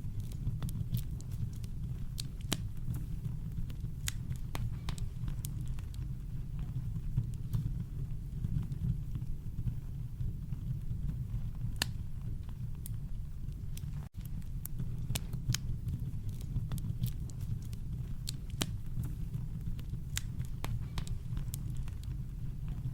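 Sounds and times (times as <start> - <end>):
campfire crackling and popping: 0.0 - 22.9.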